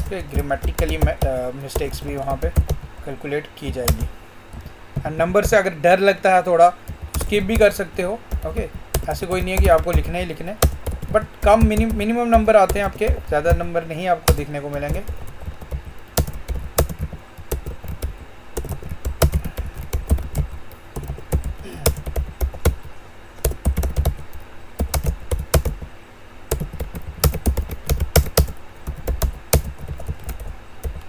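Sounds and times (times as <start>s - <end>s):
computer keyboard typing: 0.0s - 5.6s, 6.8s - 25.9s, 26.5s - 31.0s.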